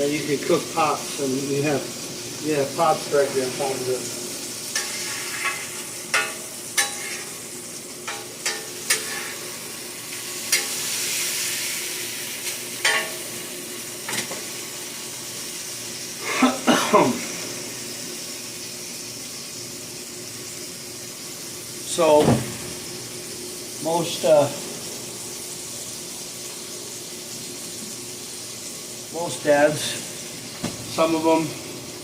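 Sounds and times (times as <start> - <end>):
burger patties sizzling on griddle: 0.0 - 32.0.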